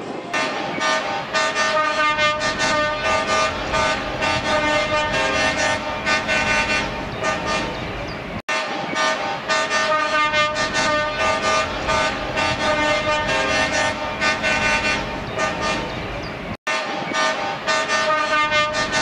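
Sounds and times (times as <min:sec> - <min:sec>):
truck air horns held tones: 0:00.3 - 0:07.8, 0:08.5 - 0:15.9, 0:16.7 - 0:19.0.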